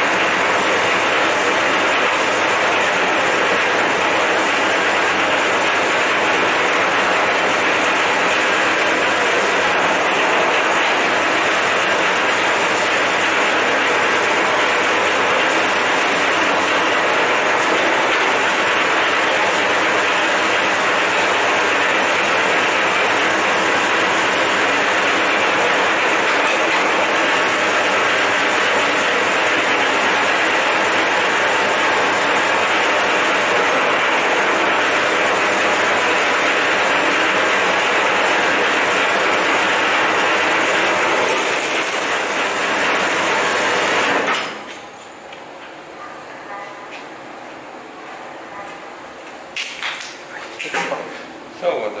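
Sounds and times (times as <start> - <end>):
wire stripping machine running: 0.0 - 45.8, 49.0 - 52.0.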